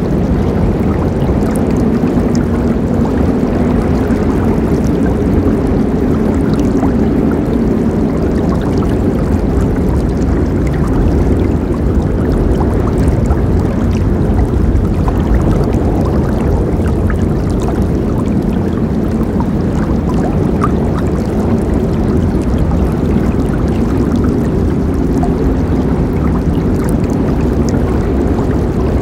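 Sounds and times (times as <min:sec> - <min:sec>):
river water flowing: 0:00.0 - 0:29.0
small splashes and gurgles: 0:00.0 - 0:29.0.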